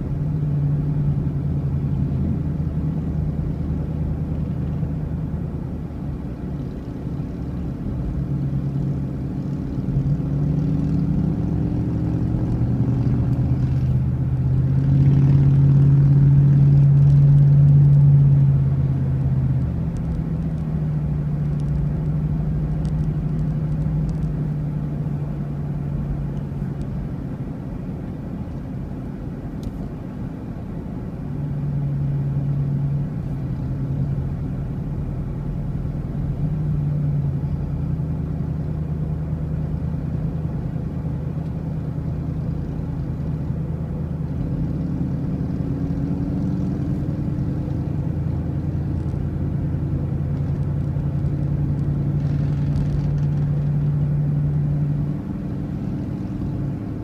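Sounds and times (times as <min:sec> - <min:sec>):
road noise: 0:00.0 - 0:57.0
vehicle engine drone: 0:00.0 - 0:57.0.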